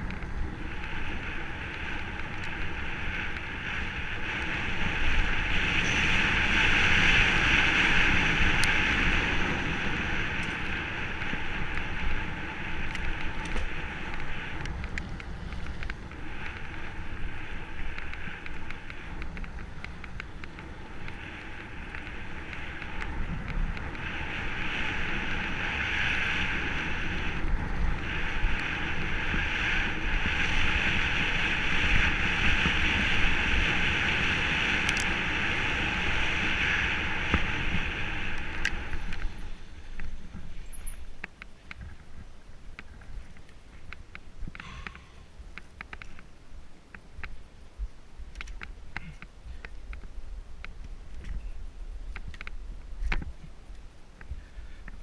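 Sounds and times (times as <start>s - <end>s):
bike tyres rolling on dirt: 0.0s - 55.0s
wind buffeting microphone: 0.0s - 55.0s.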